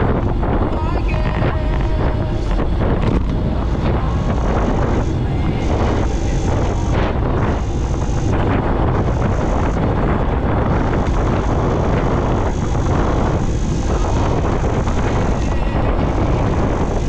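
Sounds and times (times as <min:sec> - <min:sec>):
vehicle road noise: 0:00.0 - 0:17.0
wind rumble on microphone: 0:00.0 - 0:17.0.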